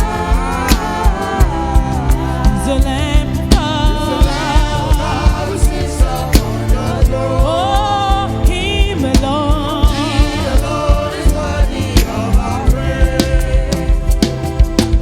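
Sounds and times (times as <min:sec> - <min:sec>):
drum beat and bass: 0:00.0 - 0:15.0
worship music singing: 0:00.0 - 0:15.0.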